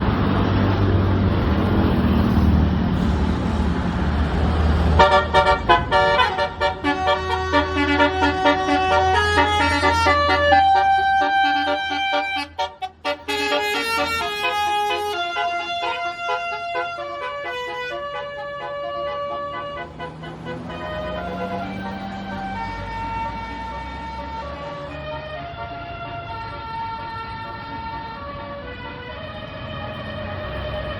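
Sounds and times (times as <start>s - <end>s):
bus engine humming: 0.0s - 30.9s
musical bus horn: 4.7s - 30.9s.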